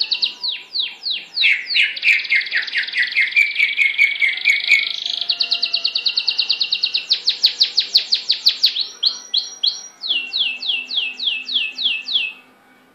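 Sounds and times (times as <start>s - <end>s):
songbird whistling song: 0.0s - 12.9s.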